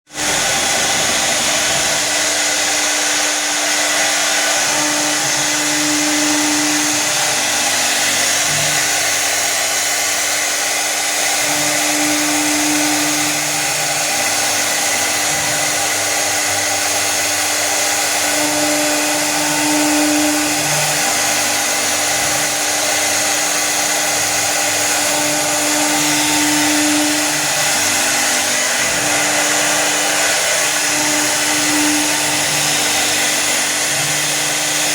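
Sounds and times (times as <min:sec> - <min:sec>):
router spindle whine and cutting hiss: 0:00.1 - 0:34.9.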